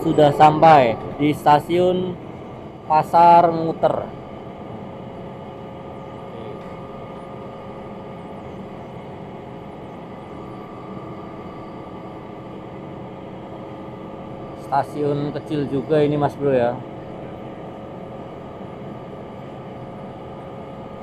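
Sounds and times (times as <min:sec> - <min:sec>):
diesel railbus idling: 0:00.0 - 0:21.0.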